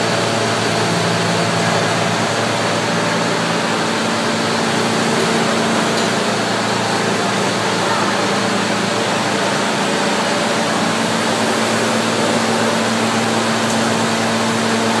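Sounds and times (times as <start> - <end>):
mill machinery humming: 0.0 - 15.0.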